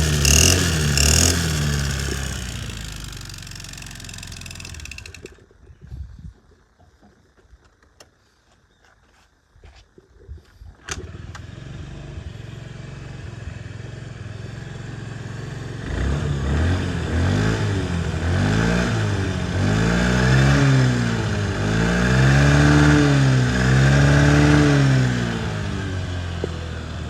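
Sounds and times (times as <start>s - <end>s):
scooter engine idling and revving: 0.0s - 5.8s, 10.9s - 27.0s.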